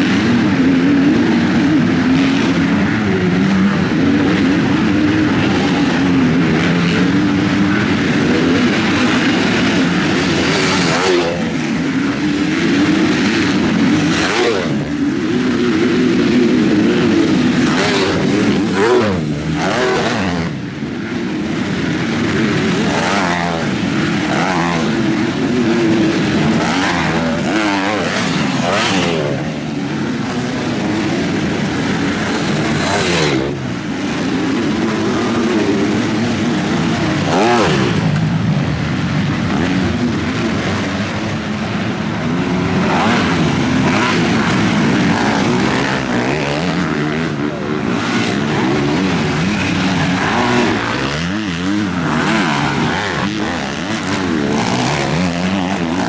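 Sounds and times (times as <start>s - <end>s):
dirt bikes revving past: 0.0s - 56.0s
distant bikes running around track: 0.0s - 56.0s.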